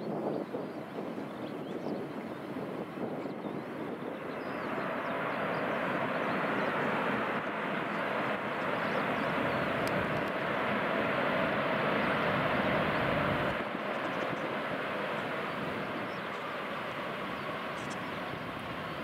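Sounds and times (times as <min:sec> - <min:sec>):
jet engines roaring: 0:01.0 - 0:19.0.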